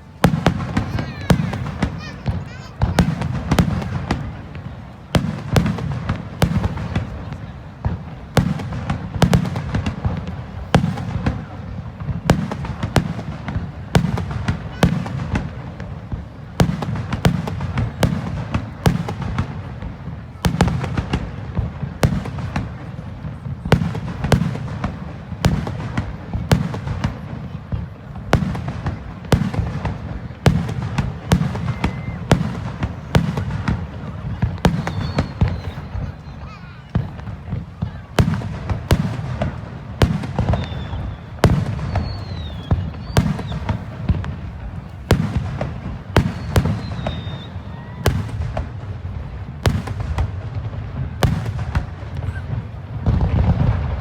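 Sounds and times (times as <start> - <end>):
fireworks sharp bangs: 0.0 - 54.0.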